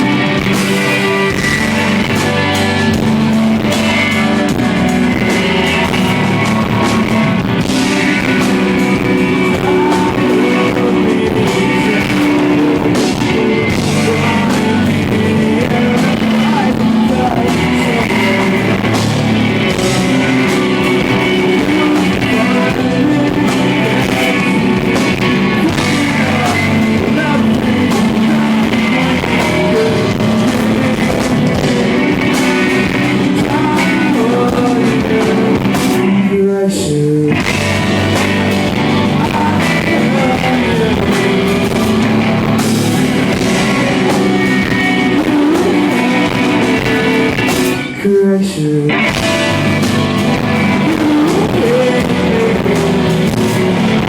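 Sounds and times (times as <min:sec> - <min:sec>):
live rock band playing: 0:00.0 - 0:54.0
person singing: 0:00.0 - 0:54.0.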